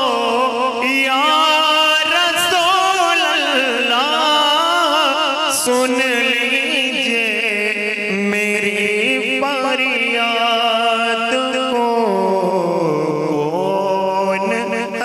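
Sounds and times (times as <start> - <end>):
man singing ornamented phrases: 0.0 - 15.0.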